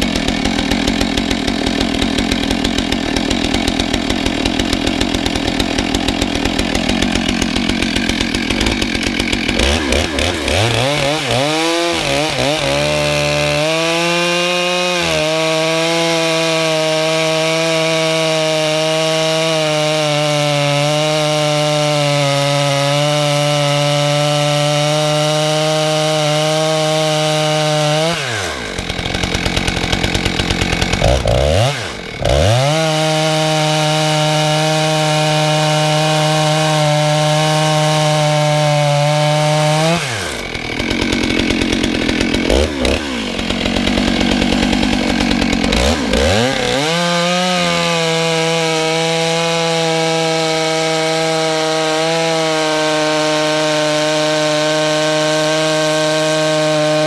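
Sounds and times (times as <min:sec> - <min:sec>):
chainsaw cutting log: 0:00.0 - 0:57.0
chainsaw engine revving: 0:00.0 - 0:57.0.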